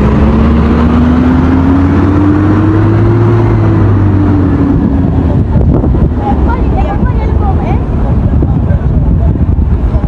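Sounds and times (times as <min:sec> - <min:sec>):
traffic noise: 0:00.0 - 0:10.0
vehicle engine passing by: 0:00.0 - 0:10.0.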